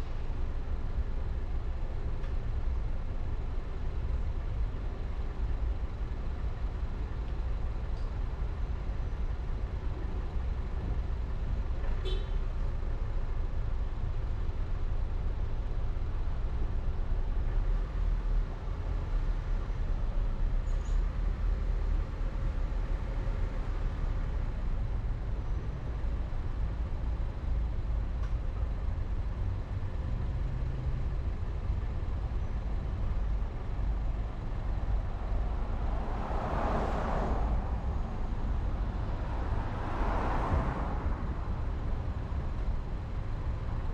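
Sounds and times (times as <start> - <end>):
car driving on road: 0.0 - 43.9.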